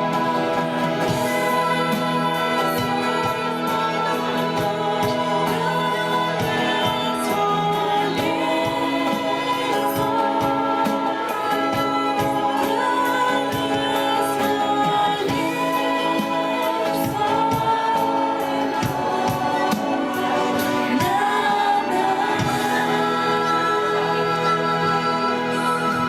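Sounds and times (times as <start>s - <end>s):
choir singing over a band: 0.0s - 26.0s.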